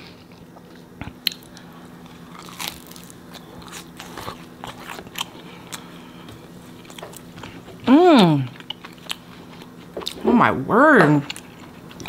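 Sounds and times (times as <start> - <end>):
chewing crunchy pizza: 0.0 - 12.0.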